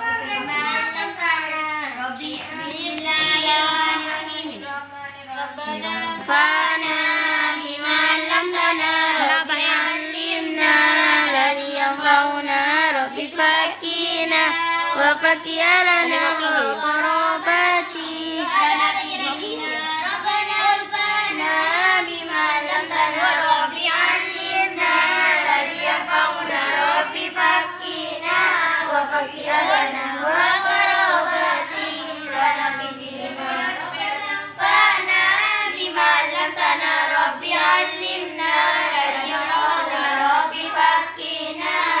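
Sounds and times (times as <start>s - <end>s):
girls chanting melodically: 5.6s - 42.0s.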